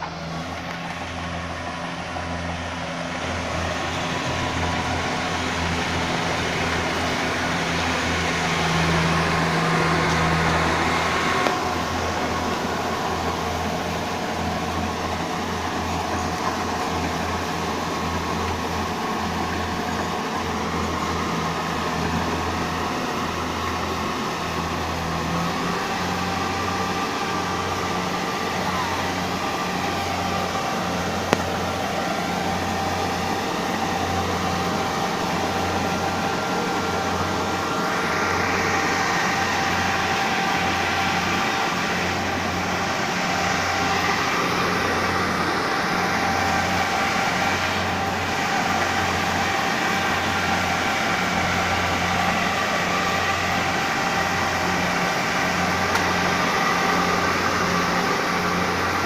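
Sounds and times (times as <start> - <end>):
harvester machine running: 0.0 - 59.0.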